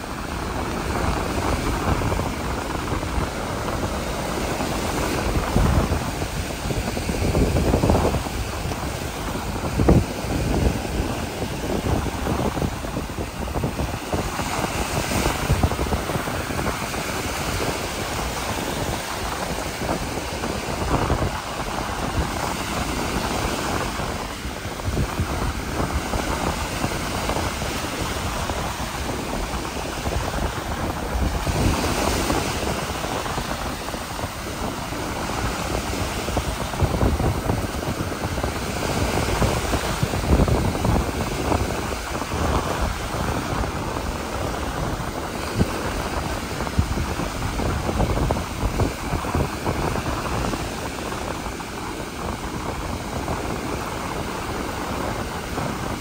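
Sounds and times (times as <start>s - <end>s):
ocean surf: 0.0s - 56.0s
wind buffeting microphone: 0.0s - 56.0s.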